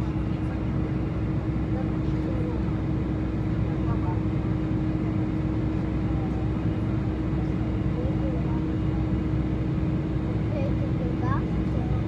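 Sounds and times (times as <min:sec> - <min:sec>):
jet airliner cabin drone: 0:00.0 - 0:12.0.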